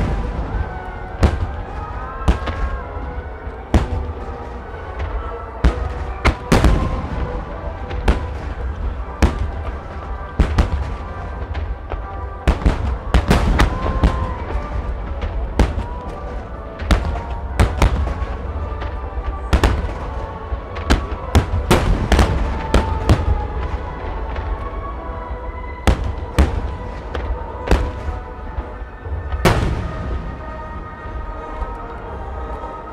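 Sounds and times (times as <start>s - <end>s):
fireworks bangs: 0.0s - 32.9s
music playing: 0.0s - 32.9s.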